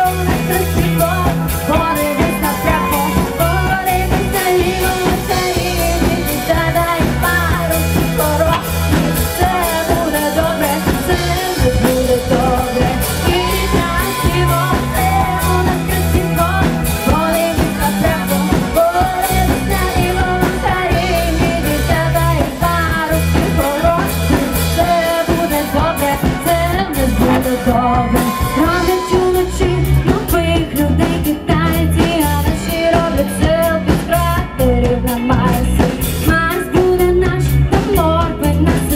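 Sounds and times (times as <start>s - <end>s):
live rock band: 0.0s - 38.9s
person singing: 0.0s - 38.9s.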